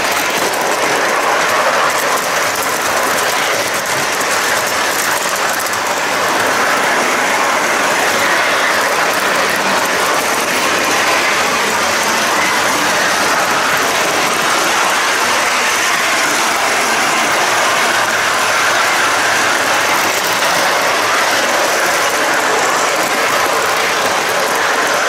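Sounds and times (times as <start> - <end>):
model train wheels rattling: 0.0 - 25.0.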